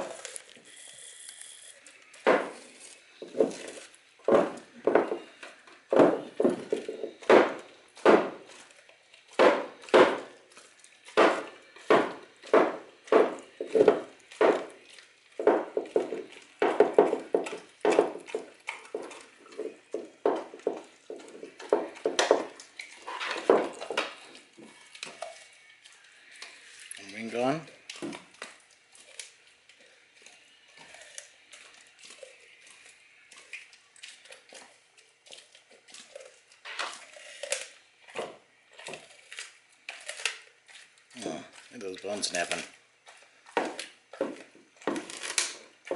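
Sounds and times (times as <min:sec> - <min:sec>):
dog crunching frozen bone: 0:00.0 - 0:45.9.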